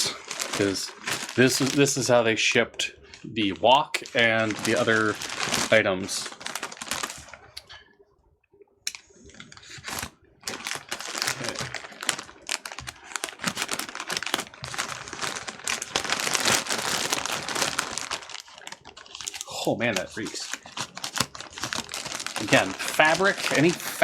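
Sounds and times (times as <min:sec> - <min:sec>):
packaging crinkling and tearing: 0:00.0 - 0:02.2, 0:03.1 - 0:07.6, 0:08.9 - 0:24.0.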